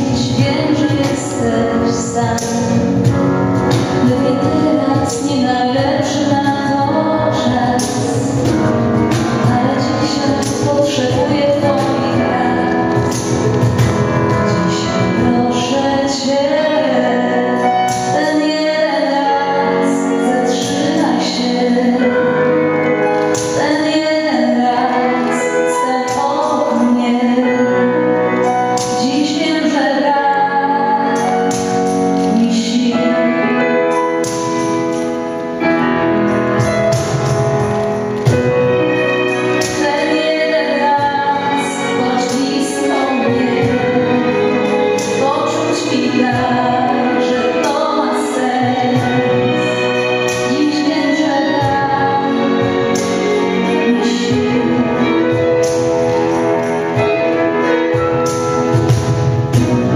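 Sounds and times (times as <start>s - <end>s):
woman singing into a microphone: 0.0s - 34.9s, 38.2s - 58.5s
string ensemble playing: 0.0s - 59.9s.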